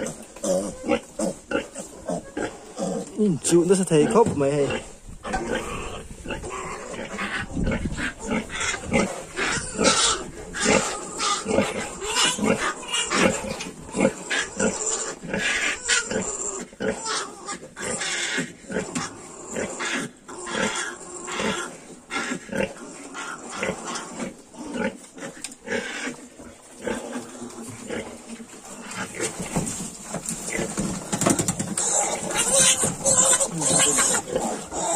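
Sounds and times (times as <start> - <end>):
pigs grunting and squealing: 0.0 - 34.9.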